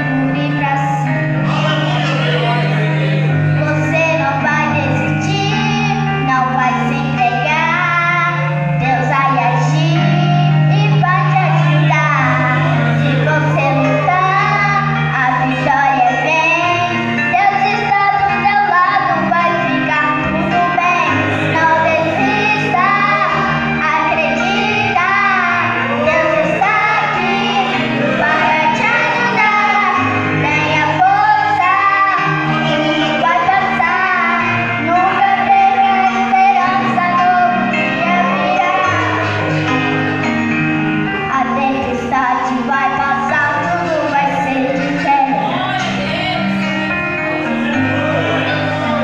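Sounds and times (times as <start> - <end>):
person singing: 0.0 - 40.4, 41.2 - 49.0
sustained low accompaniment notes: 0.0 - 49.0.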